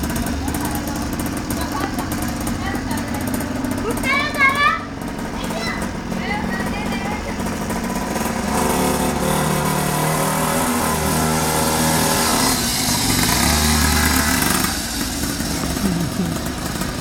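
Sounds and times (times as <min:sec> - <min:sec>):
small motorbike engine running: 0:00.0 - 0:17.0.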